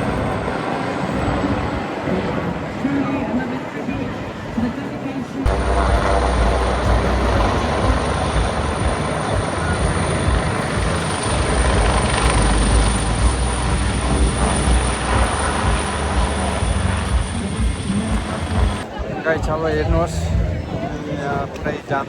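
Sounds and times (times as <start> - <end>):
aircraft engine roar: 0.0 - 19.0.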